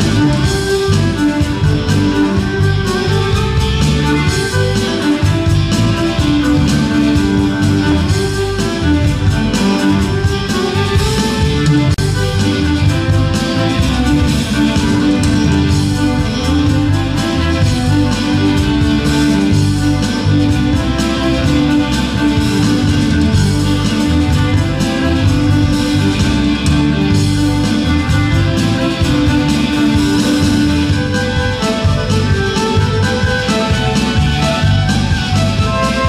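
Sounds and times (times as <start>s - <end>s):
drum kit beat: 0.0s - 36.0s
electric guitars: 0.0s - 36.0s
fiddle: 0.0s - 36.0s.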